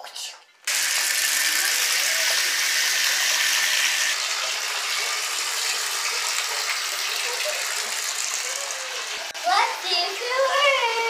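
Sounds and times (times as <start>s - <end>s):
water running into bathtub: 0.6s - 11.0s.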